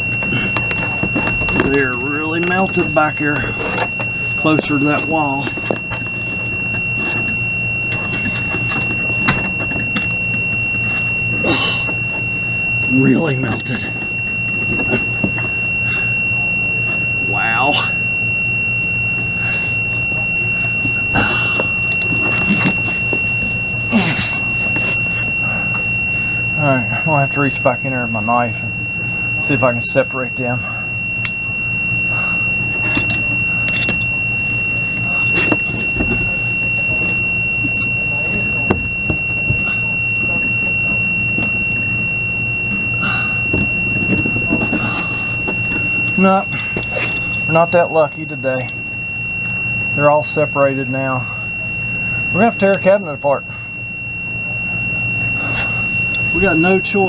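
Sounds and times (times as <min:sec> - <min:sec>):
low hum: 0:00.0 - 0:57.0
multimeter continuity beep: 0:00.0 - 0:57.0.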